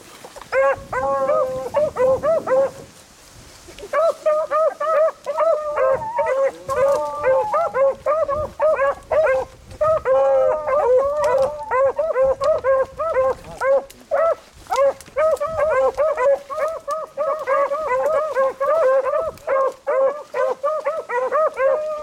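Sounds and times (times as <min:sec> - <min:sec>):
dogs baying: 0:00.5 - 0:02.8, 0:03.9 - 0:22.0.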